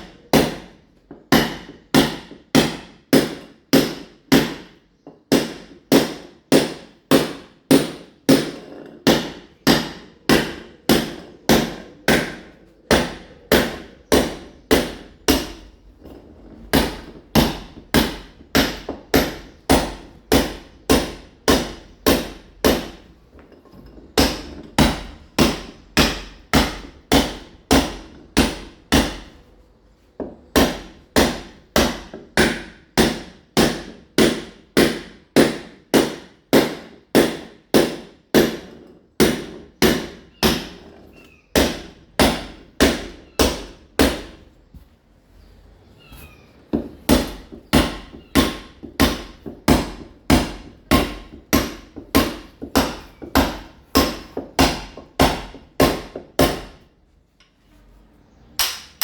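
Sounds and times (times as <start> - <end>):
hammer striking masonry wall: 0.0 - 29.5, 30.1 - 44.8, 46.7 - 56.9, 58.6 - 59.0.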